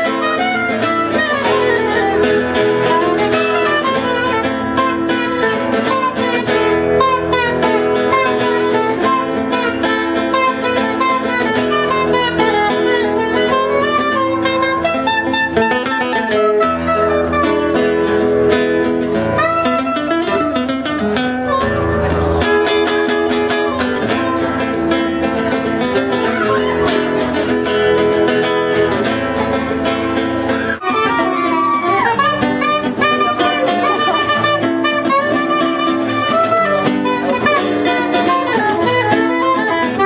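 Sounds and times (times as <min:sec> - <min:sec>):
soprano saxophone melody: 0:00.0 - 0:29.5, 0:30.4 - 0:40.0
plucked guitar chords: 0:00.0 - 0:40.0.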